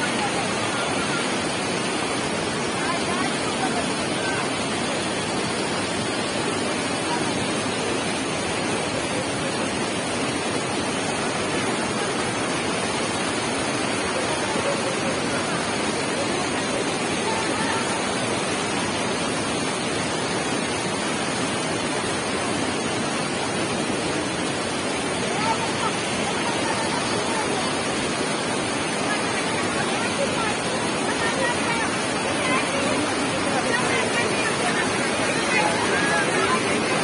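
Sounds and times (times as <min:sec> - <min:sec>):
stream water rushing over boulders: 0:00.0 - 0:37.0.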